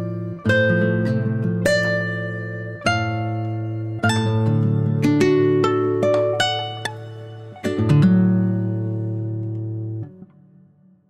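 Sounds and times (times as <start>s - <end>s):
acoustic guitar picking notes: 0.0s - 11.0s.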